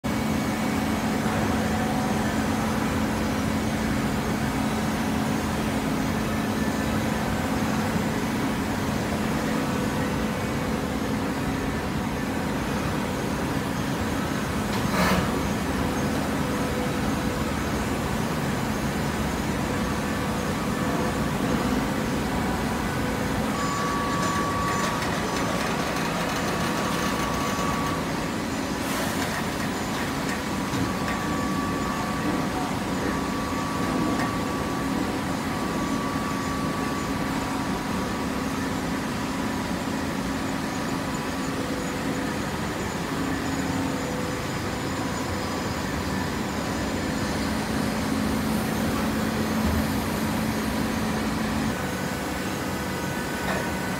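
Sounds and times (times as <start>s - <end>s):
industrial machinery humming: 0.0s - 53.9s.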